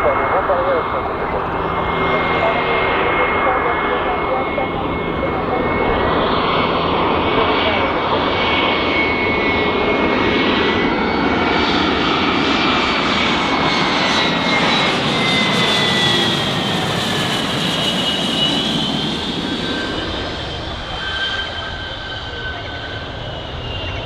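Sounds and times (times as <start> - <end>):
jet engines with turbine whine: 0.0 - 24.0.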